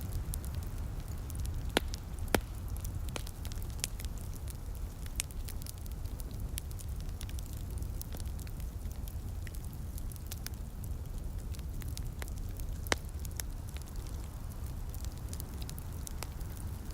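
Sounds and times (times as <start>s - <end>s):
fire crackling and popping: 0.0s - 16.9s
fire rumbling: 0.0s - 16.9s.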